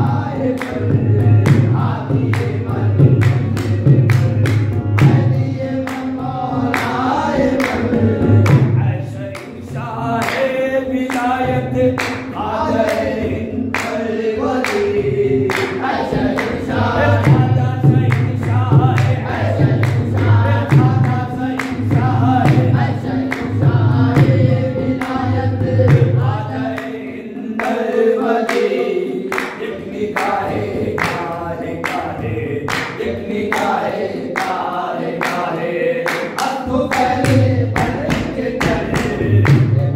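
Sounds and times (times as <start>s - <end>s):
men singing in chorus: 0.0s - 39.9s
rhythmic hand-clapping: 0.0s - 39.9s.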